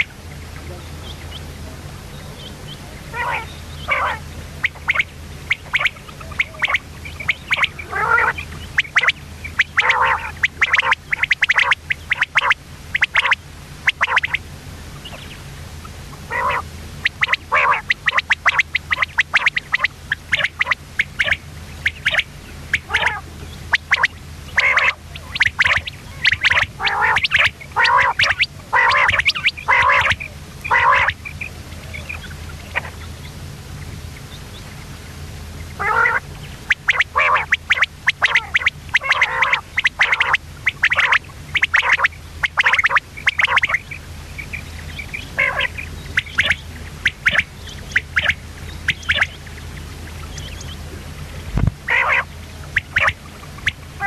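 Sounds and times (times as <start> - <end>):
quail calling: 0.0 - 34.9, 35.6 - 54.0
steady low hum: 0.0 - 54.0.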